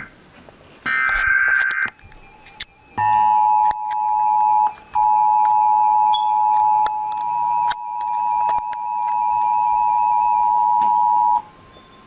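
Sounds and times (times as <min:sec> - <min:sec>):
two-tone alarm: 0:00.9 - 0:12.0.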